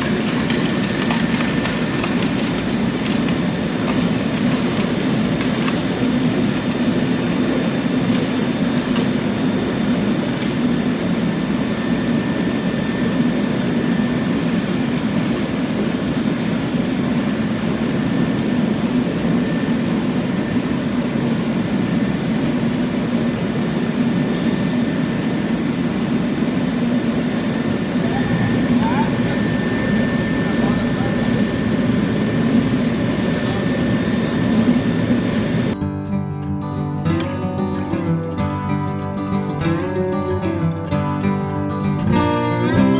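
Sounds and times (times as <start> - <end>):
concrete floor grinder drone: 0.0 - 35.9.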